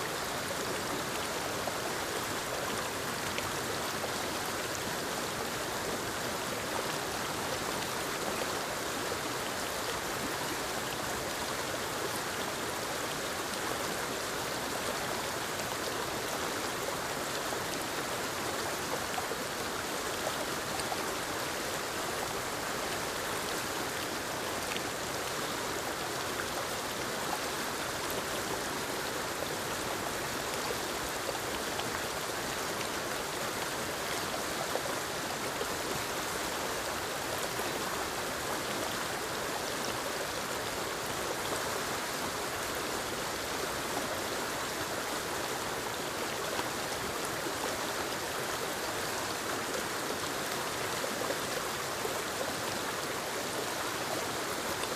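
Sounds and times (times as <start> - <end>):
waterfall splashing over rocks: 0.0 - 54.9.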